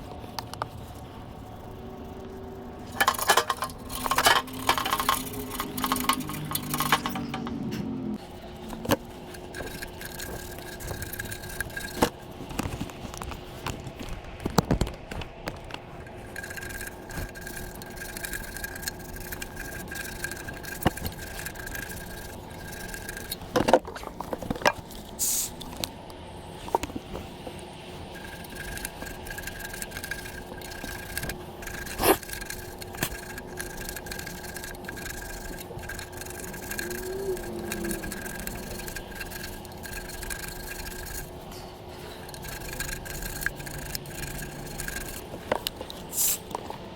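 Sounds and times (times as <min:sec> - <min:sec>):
scraping and rubbing: 0:00.0 - 0:07.6, 0:08.2 - 0:25.9, 0:26.5 - 0:46.9
faint hum: 0:00.0 - 0:46.9.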